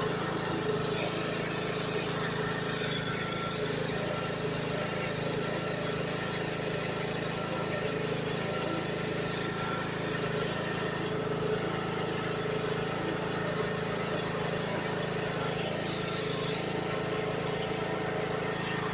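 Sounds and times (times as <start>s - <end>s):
tractor engine idling: 0.0s - 18.9s.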